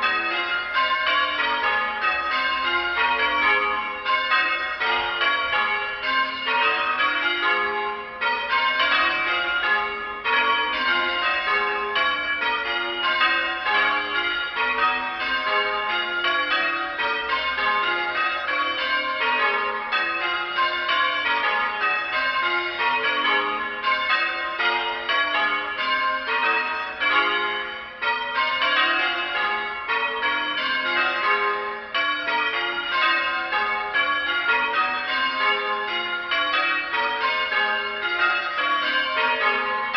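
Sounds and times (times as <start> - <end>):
church bells change ringing: 0.0 - 39.9.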